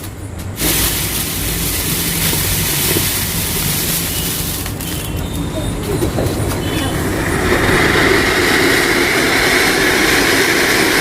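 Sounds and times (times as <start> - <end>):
firework fountain hissing: 0.4 - 11.0.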